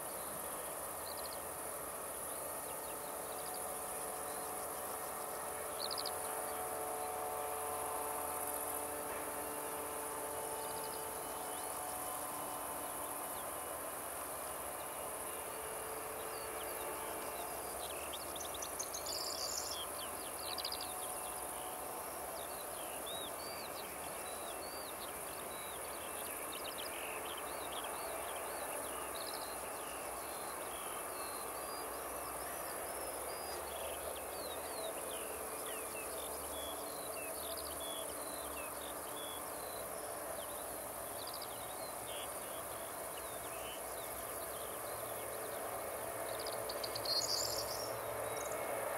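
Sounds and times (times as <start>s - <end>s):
distant jet engine whine: 0.0s - 48.9s
insects chirping: 0.0s - 48.9s.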